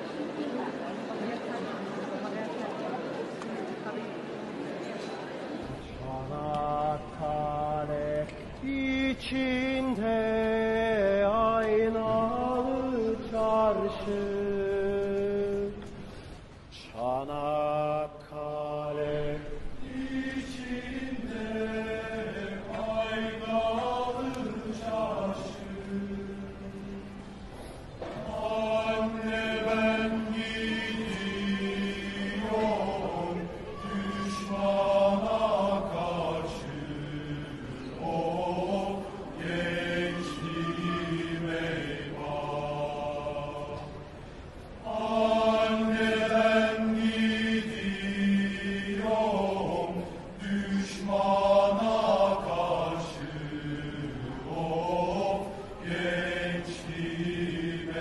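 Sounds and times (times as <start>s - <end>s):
male choir singing: 5.7s - 15.8s, 16.8s - 27.3s, 28.0s - 44.2s, 44.8s - 58.0s.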